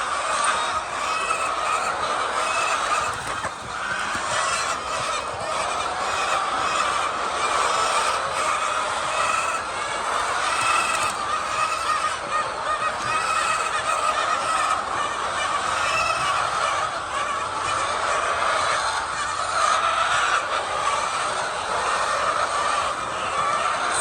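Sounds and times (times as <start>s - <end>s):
flock of hens clucking: 0.0s - 24.0s.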